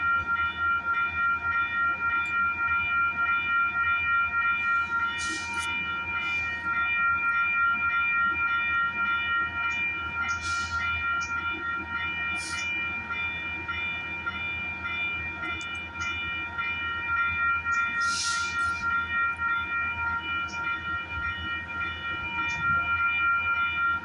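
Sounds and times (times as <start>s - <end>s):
train high whine: 0.0s - 24.0s.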